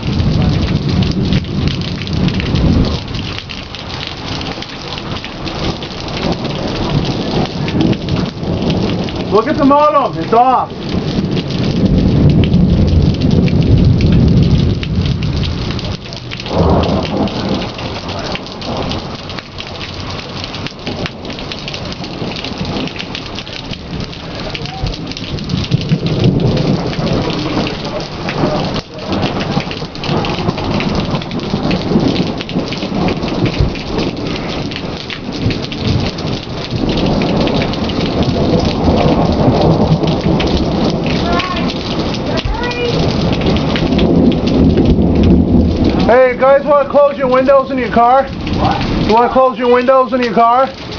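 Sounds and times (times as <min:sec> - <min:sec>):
heavy rain pouring: 0:00.0 - 0:50.9
low rolling thunder: 0:00.0 - 0:50.9.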